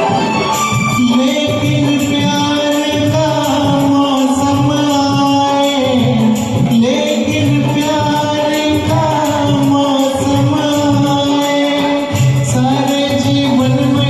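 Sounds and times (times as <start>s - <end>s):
karaoke backing music with beat: 0.0s - 14.0s.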